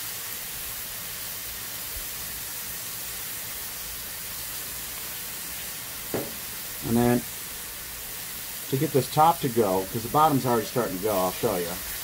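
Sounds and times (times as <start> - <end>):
steak sizzling on a griddle: 0.0 - 12.0.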